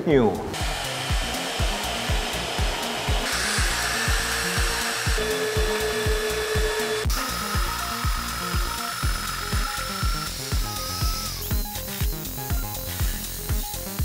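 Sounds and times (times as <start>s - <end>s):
background music with beat: 0.1s - 14.0s
drill motor whining: 0.6s - 14.0s.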